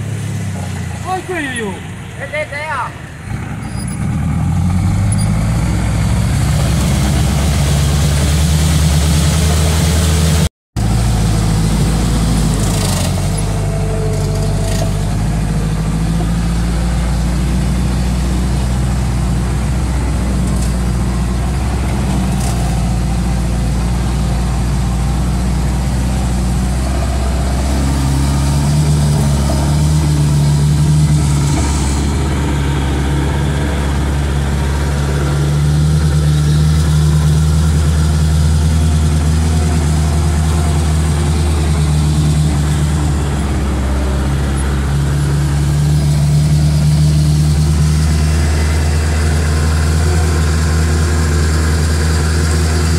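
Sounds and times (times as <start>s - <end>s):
bus engine from inside: 0.0s - 52.9s.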